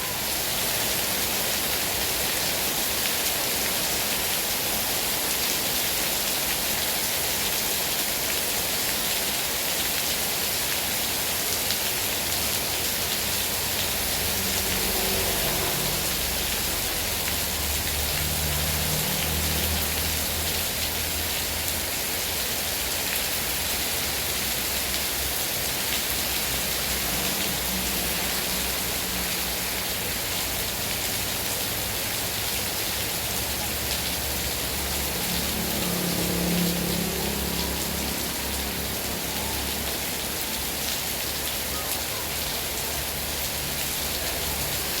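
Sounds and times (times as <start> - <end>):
heavy rain: 0.0 - 45.0.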